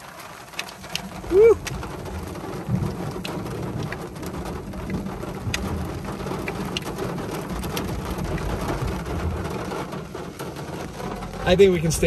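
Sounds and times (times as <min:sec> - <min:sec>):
rain on car windshield: 0:00.0 - 0:12.0
raindrops ticking on glass: 0:00.0 - 0:12.0.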